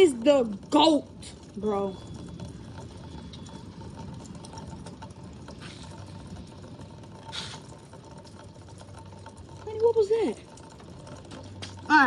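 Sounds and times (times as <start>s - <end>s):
rainwater running through gutter: 0.0s - 12.0s.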